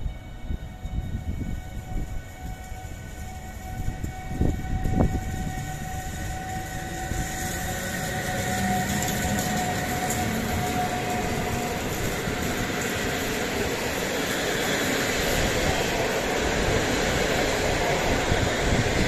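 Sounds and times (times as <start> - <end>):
electric locomotive whine: 0.0 - 19.0
train wheels rolling on rails: 0.0 - 19.0.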